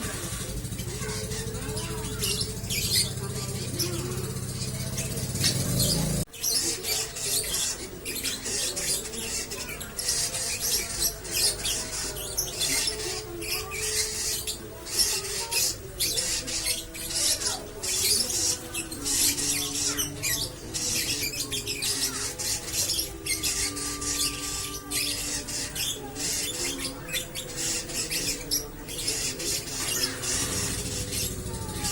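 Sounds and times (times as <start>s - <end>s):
lovebird chattering: 0.0s - 31.9s.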